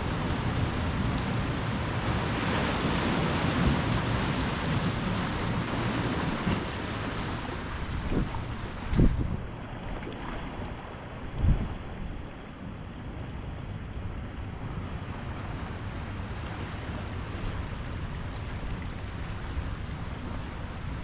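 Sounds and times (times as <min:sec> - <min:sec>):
ocean surf washing: 0:00.0 - 0:21.0
wind rumbling on microphone: 0:00.0 - 0:21.0.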